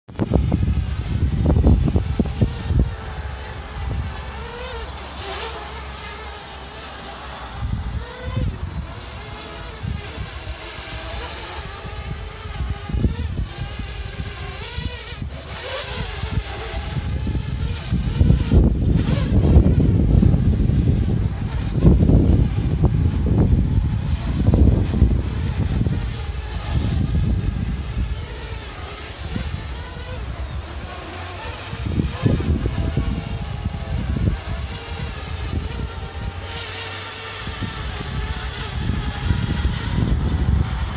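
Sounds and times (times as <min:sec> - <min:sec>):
drone propellers whining: 0:00.1 - 0:40.9
wind rumbling on microphone: 0:00.1 - 0:40.9.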